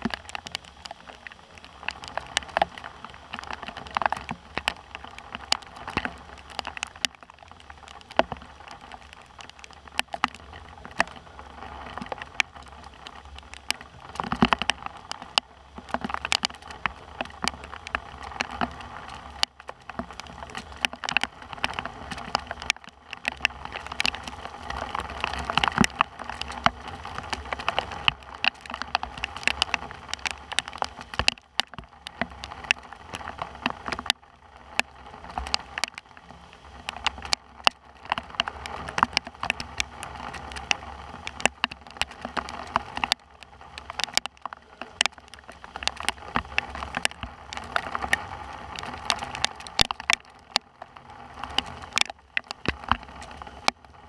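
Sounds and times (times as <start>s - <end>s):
rain falling: 0.0s - 54.0s
raindrops ticking near microphone: 0.0s - 54.0s.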